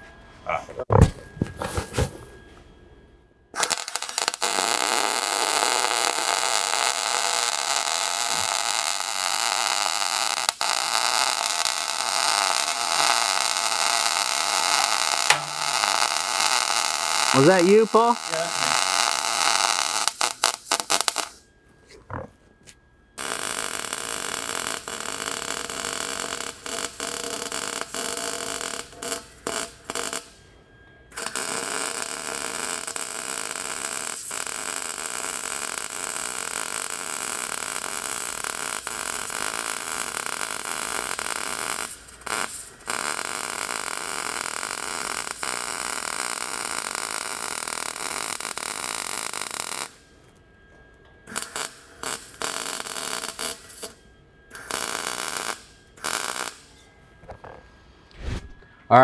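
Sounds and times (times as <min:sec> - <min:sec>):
welding arc crackling and hissing: 0:03.6 - 0:21.4, 0:23.2 - 0:30.4, 0:31.1 - 0:50.0, 0:51.3 - 0:54.0, 0:54.6 - 0:56.7.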